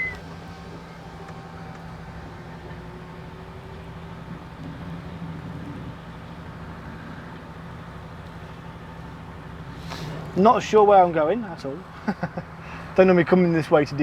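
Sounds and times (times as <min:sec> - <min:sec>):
lorry engine and road noise: 0:00.0 - 0:14.0.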